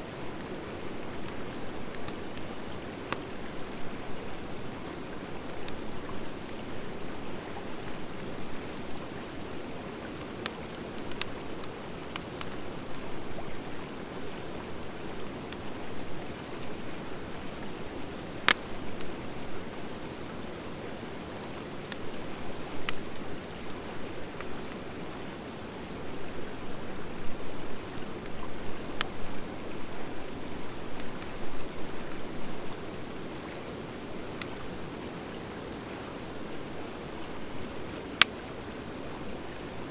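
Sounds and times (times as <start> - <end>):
wood fire crackling: 0.1 - 20.0, 21.6 - 25.7, 26.8 - 39.0.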